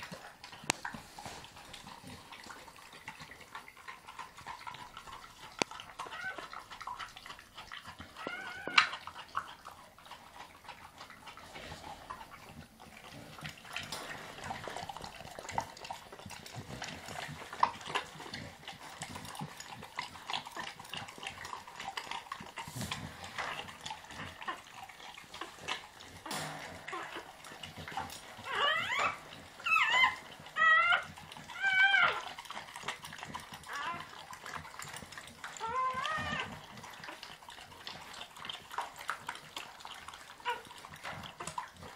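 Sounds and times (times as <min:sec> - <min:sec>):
dog licking and slurping: 0:00.0 - 0:41.9
puppy whining: 0:00.0 - 0:41.9.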